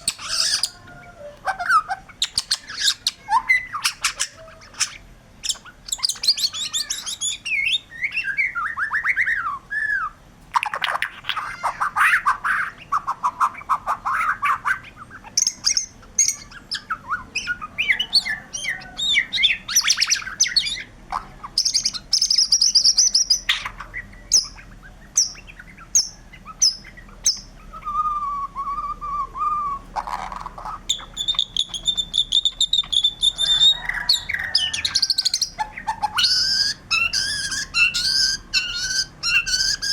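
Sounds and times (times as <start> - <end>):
bird singing whistled phrases and trills: 0.0 - 39.9.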